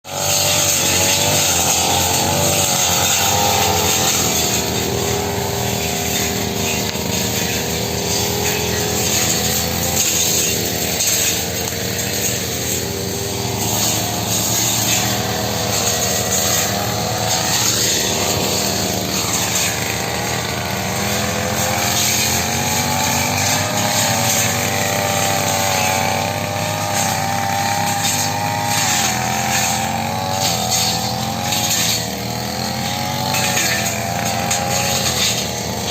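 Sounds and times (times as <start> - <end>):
brush cutter engine cutting grass: 0.0 - 35.9.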